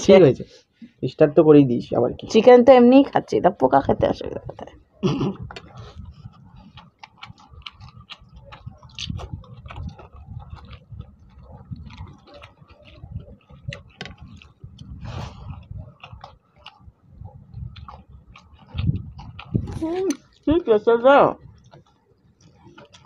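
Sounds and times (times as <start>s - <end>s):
people chewing and smacking lips: 4.0s - 23.0s.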